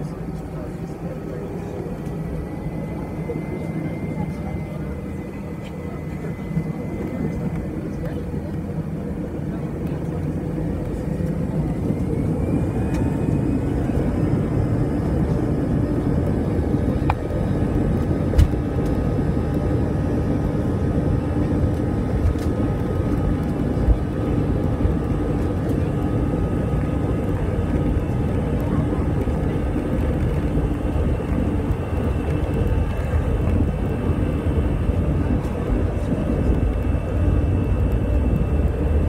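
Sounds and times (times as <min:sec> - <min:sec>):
jet engines humming in cabin: 0:00.0 - 0:39.0.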